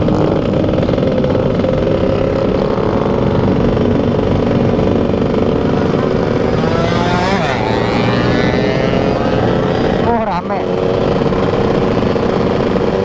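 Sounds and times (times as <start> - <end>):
low rumbling noise: 0.0 - 13.0
motorcycle engine running: 0.0 - 13.0.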